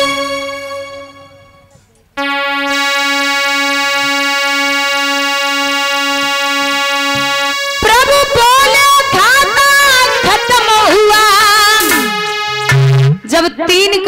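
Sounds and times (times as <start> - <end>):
keyboard chords: 0.0 - 13.3.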